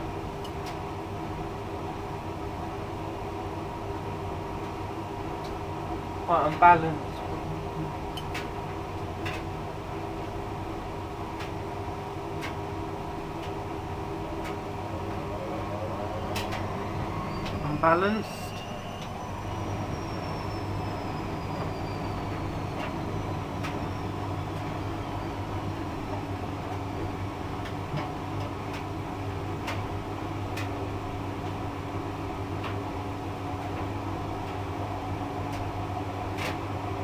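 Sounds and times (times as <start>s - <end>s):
washing machine motor humming: 0.0s - 37.0s.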